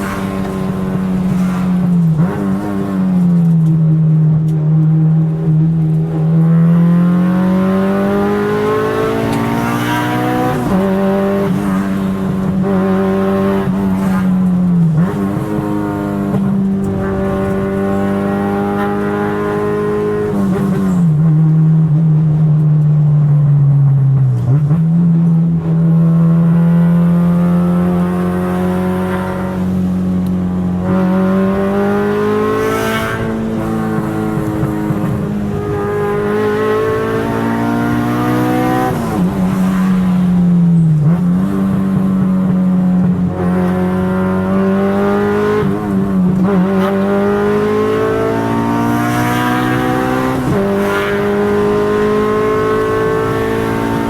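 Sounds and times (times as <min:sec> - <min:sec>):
car engine revving high: 0:05.2 - 0:21.0, 0:24.5 - 0:54.0.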